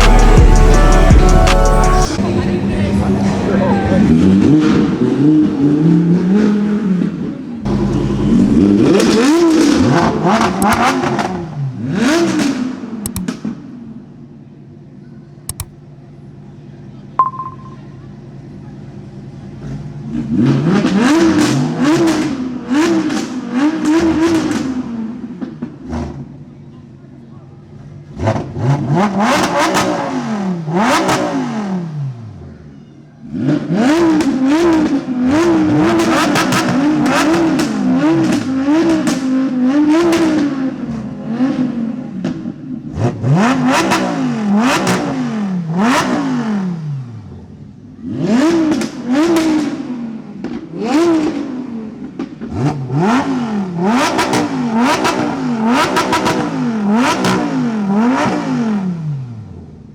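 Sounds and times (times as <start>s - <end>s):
car engine revving: 0.0s - 14.0s, 19.6s - 26.4s, 28.0s - 31.9s, 33.3s - 47.1s, 48.0s - 59.4s.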